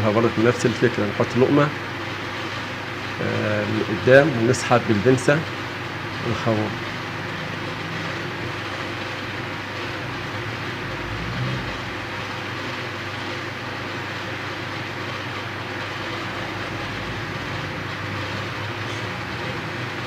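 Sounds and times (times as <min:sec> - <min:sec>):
steady rumbling with low hum: 0:00.0 - 0:20.0.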